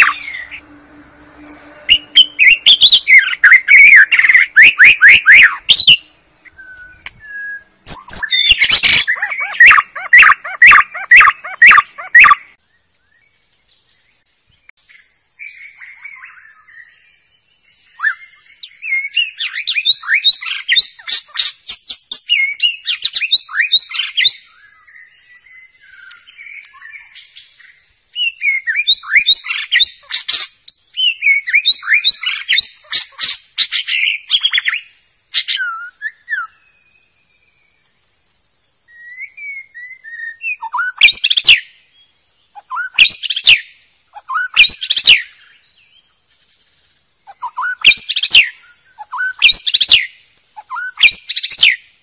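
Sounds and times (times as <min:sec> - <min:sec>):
bird singing whistled notes: 0:00.0 - 0:38.0, 0:38.8 - 0:52.0.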